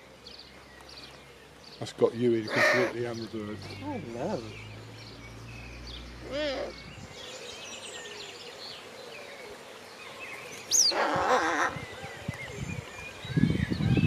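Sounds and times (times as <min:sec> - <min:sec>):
small birds singing: 0:00.0 - 0:14.0.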